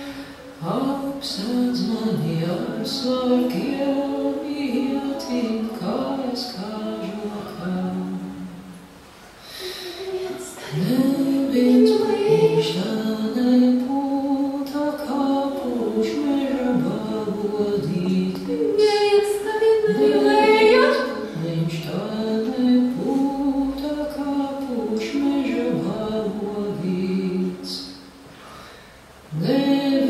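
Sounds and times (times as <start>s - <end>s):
unaccompanied group singing: 0.0s - 8.7s, 10.0s - 27.8s, 29.3s - 30.0s.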